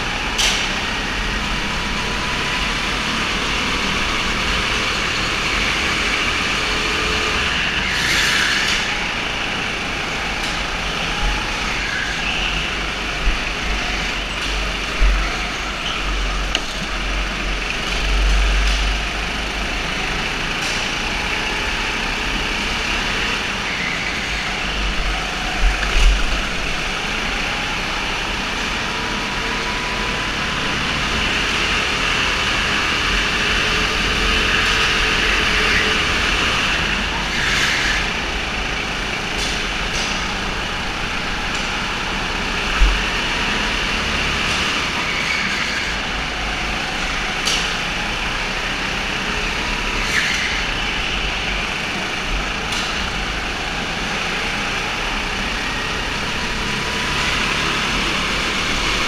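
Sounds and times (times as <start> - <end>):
go-kart engines droning: 0.0 - 59.0.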